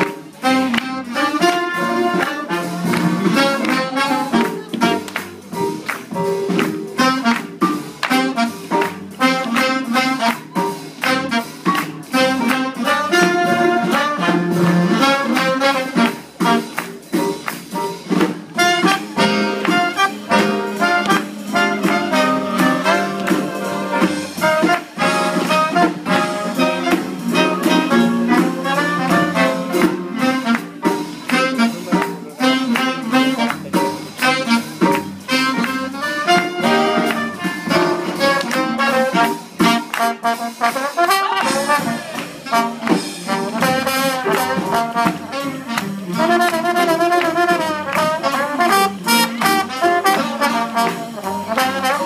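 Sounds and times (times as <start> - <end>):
swing big band playing: 0.0 - 52.0.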